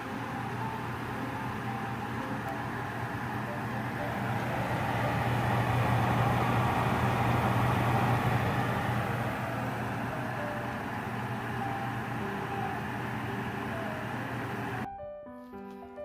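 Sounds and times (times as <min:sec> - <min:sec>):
clothes dryer motor hum and whir: 0:00.0 - 0:14.9.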